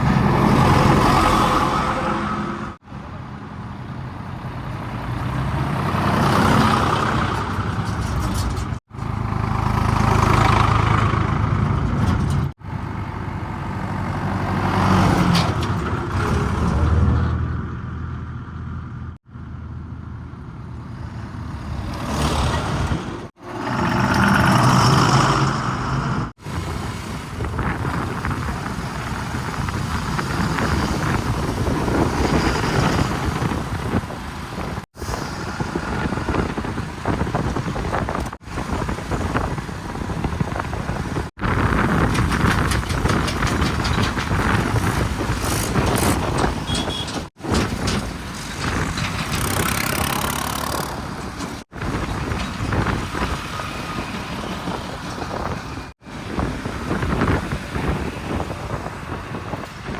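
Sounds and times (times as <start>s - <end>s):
diesel engines revving: 0.0s - 59.9s.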